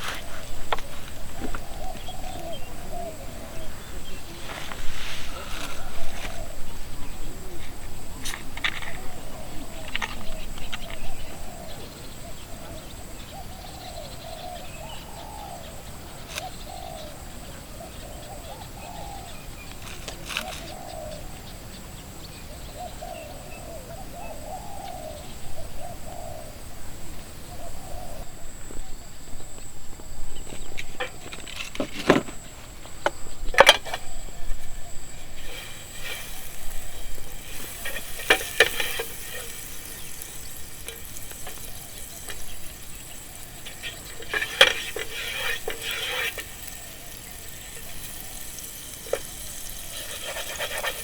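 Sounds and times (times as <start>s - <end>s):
doves cooing: 0.0s - 21.5s, 22.3s - 29.0s, 33.6s - 51.0s.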